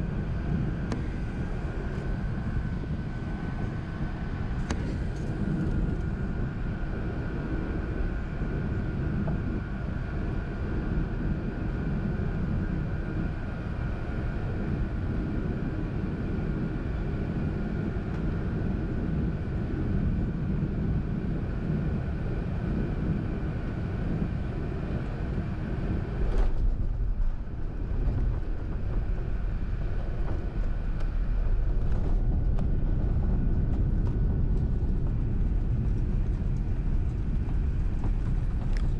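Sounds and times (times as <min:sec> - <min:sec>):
aircraft engines and airflow rumble: 0:00.0 - 0:38.9
faint steady whine: 0:00.0 - 0:38.9.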